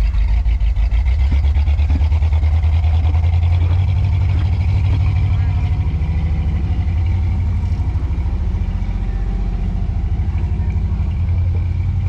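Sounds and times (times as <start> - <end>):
engine idling at low revs: 0.0 - 12.0.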